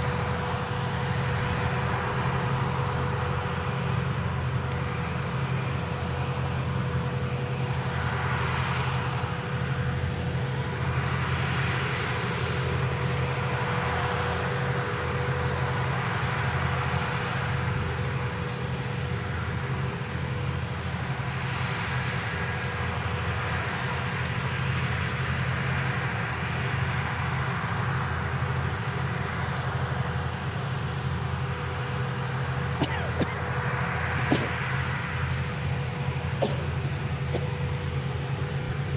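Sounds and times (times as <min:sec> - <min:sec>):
distant combine harvesters droning: 0:00.0 - 0:38.9
insects trilling: 0:00.0 - 0:38.9.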